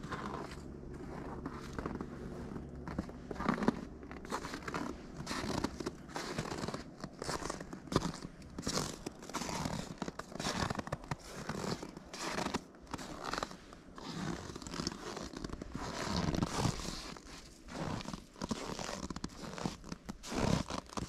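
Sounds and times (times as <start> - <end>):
snow crunching and scraping: 0.0 - 21.0.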